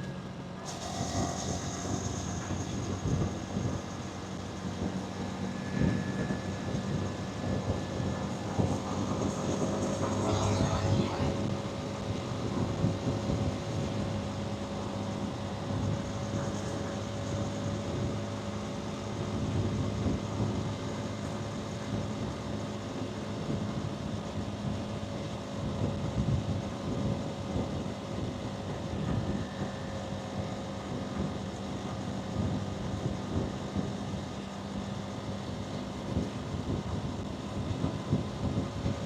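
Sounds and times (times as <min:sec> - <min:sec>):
motorcycle engine running: 0:00.0 - 0:39.0
wind rush on microphone: 0:00.6 - 0:39.0.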